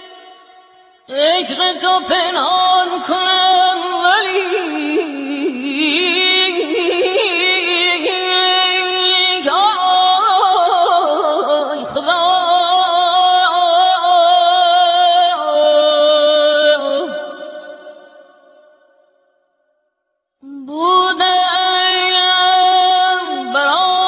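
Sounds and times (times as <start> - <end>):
husky-voiced person singing: 0.0 - 18.2, 20.4 - 24.0.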